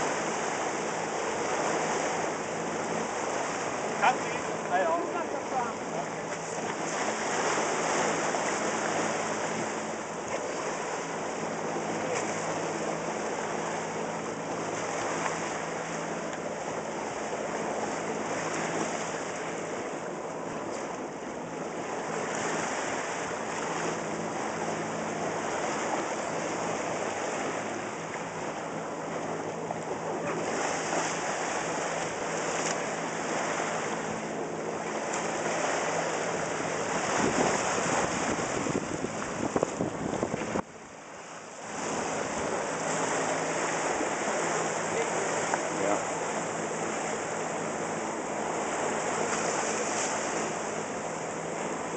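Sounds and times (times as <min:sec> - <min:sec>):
boat motor hum: 0:00.0 - 0:51.9
water splashing along boat hull: 0:00.0 - 0:51.9.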